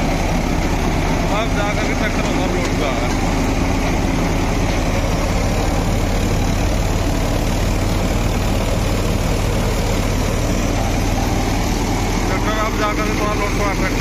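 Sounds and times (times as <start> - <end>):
reaper machinery running: 0.0 - 14.0
tractor diesel engine running: 0.0 - 14.0.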